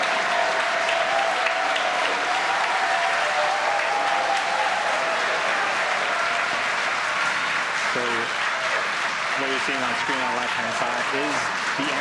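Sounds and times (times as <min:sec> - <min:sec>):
crowd applauding: 0:00.0 - 0:12.0
voices cheering: 0:00.0 - 0:12.0.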